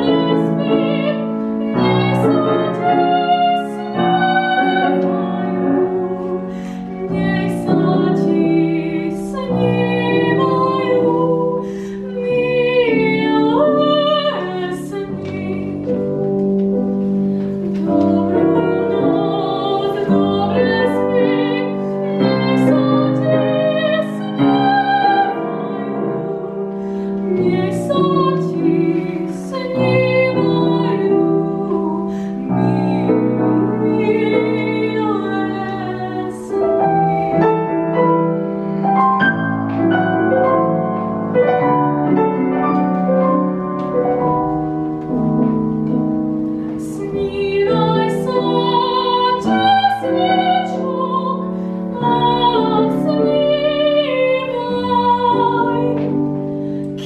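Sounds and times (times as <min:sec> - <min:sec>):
woman singing with vibrato: 0:00.0 - 0:16.2, 0:17.6 - 0:37.8, 0:46.8 - 0:57.0
grand piano chords: 0:00.0 - 0:57.0.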